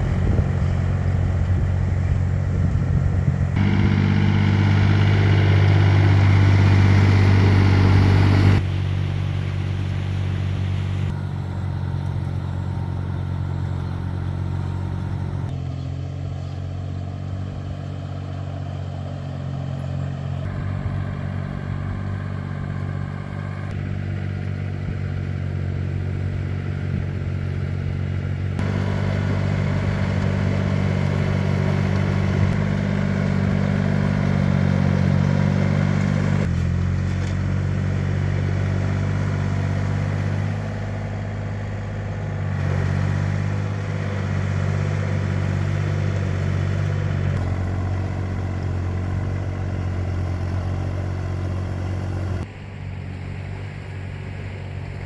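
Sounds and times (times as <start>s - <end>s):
walking tractor engine running: 0.0s - 55.0s.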